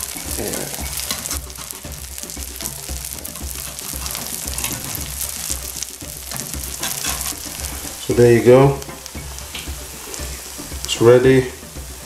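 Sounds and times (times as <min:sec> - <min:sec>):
eggs sizzling in frying pan: 0:00.0 - 0:12.0
spatula scraping pan: 0:00.0 - 0:12.0.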